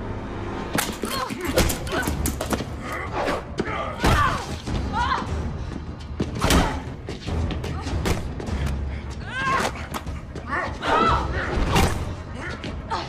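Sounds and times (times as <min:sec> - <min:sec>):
suspenseful orchestral music: 0:00.0 - 0:13.0.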